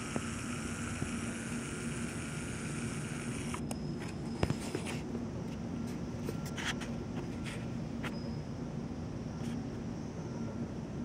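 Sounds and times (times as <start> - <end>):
indoor room hum and hiss: 0.0 - 11.0.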